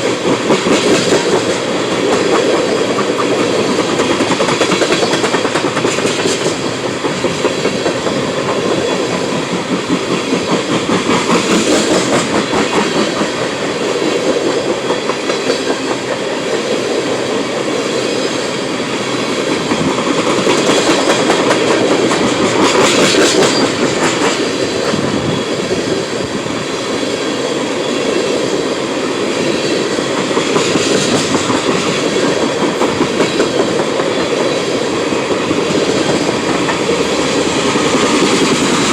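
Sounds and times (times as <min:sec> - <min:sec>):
train wheels clacking over rail joints: 0:00.0 - 0:28.4, 0:29.1 - 0:38.9
freight train rolling past: 0:00.0 - 0:38.9.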